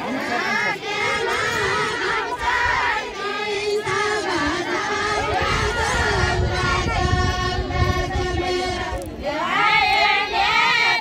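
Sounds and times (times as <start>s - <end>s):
crowd voices: 0.0s - 11.0s
women singing folk song: 0.3s - 11.0s.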